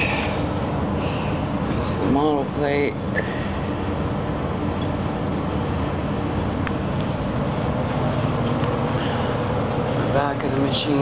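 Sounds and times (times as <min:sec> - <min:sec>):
low mechanical hum with hiss: 0:00.0 - 0:11.0.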